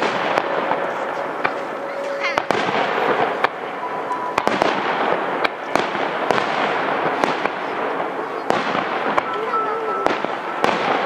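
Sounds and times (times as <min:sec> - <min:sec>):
firework shells bursting: 0:00.0 - 0:11.0
steady background noise: 0:00.0 - 0:11.0.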